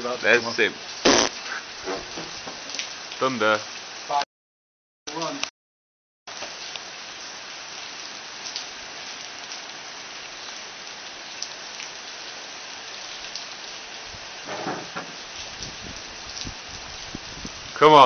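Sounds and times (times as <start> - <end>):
steady rain hiss: 0.0 - 4.2, 5.1 - 5.4, 6.3 - 18.0.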